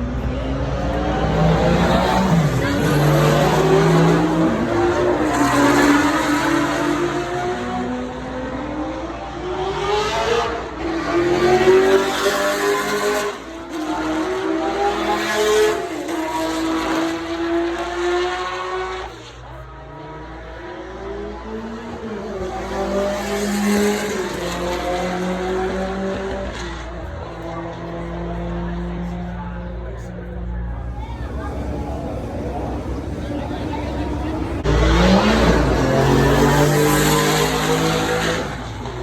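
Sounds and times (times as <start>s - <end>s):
sports car engines revving: 0.0s - 39.0s.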